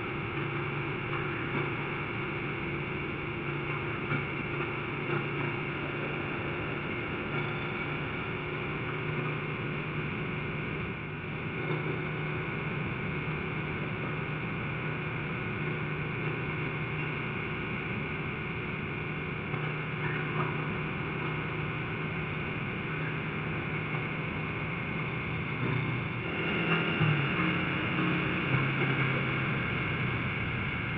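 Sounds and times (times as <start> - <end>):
road and wind noise: 0.0 - 30.9
vehicle engine running: 0.0 - 30.9.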